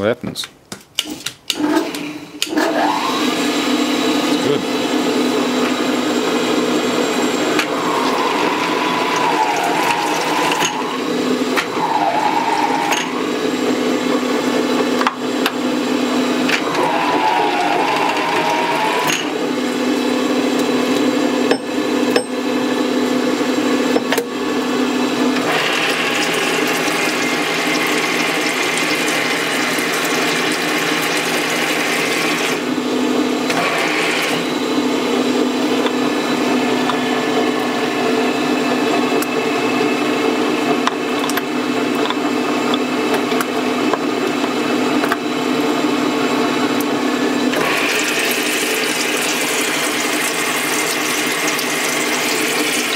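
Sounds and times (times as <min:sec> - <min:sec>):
lathe motor hum: 0:01.6 - 0:52.9.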